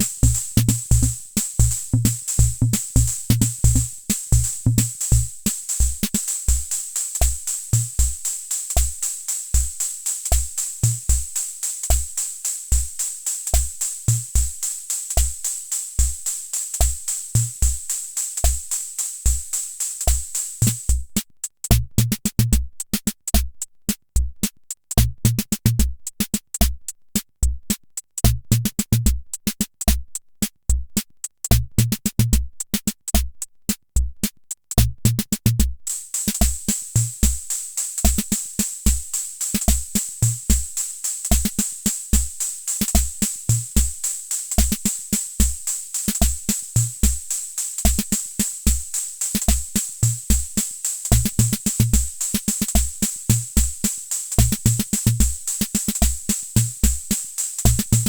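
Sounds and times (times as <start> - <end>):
drum machine bass drum thumps: 0.0 - 58.0
drum machine cymbal hiss: 0.0 - 58.0
hi-hat ticks: 0.0 - 58.0.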